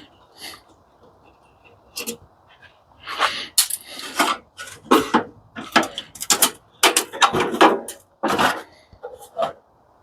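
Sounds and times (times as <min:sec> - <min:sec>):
parts scraping and clattering: 0:00.0 - 0:09.7.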